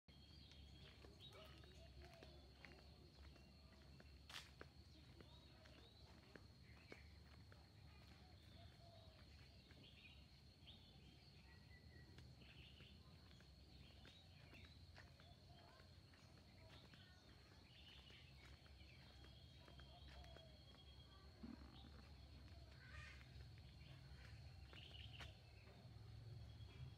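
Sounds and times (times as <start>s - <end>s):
bird chirps: 0.1s - 26.9s.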